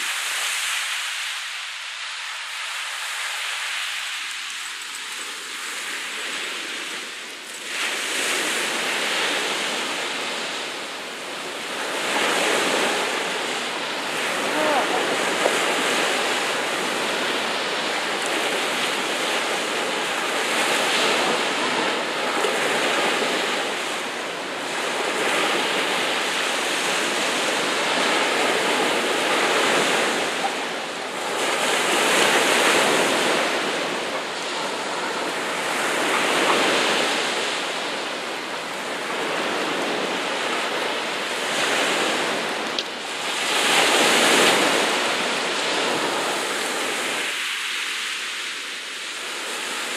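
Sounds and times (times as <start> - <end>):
sea waves splashing: 0.0 - 49.9
wind: 0.0 - 49.9.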